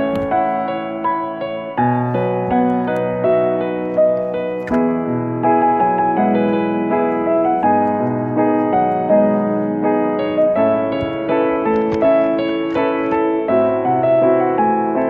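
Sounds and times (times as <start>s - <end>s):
solo piano piece: 0.0s - 15.0s.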